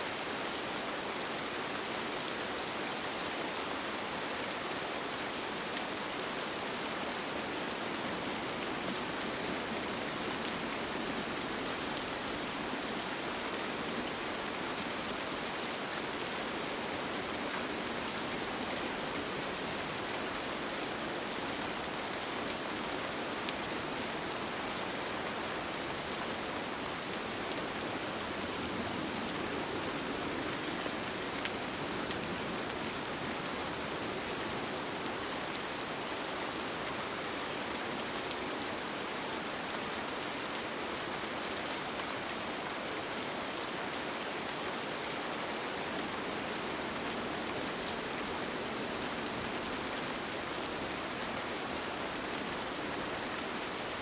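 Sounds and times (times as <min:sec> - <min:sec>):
rain on a tent: 0:00.0 - 0:54.0.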